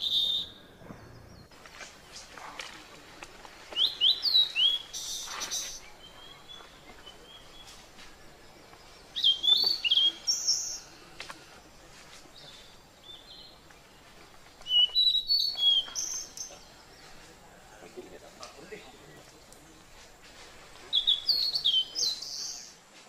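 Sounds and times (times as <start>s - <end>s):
birds chirping: 0.0s - 22.9s
faint outdoor background: 0.0s - 23.0s.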